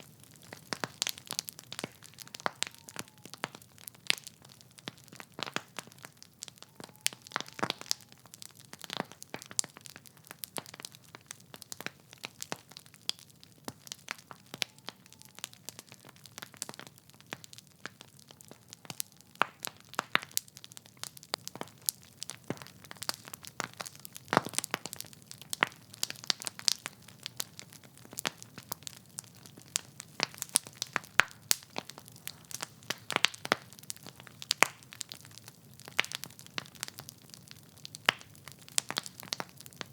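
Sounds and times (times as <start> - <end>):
wood fire pops and snaps: 0.0 - 39.9.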